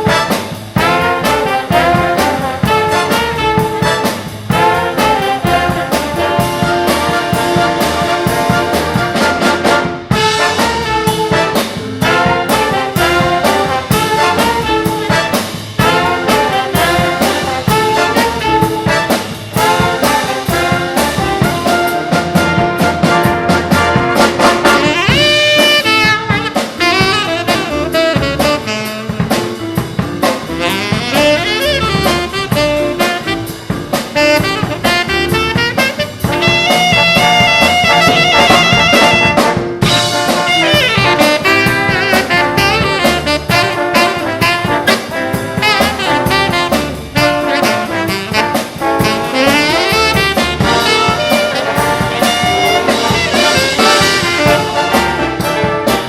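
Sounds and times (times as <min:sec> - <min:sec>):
big band playing swing jazz: 0:00.0 - 0:56.0
brass and saxophones: 0:00.0 - 0:56.0
drum kit: 0:00.0 - 0:56.0.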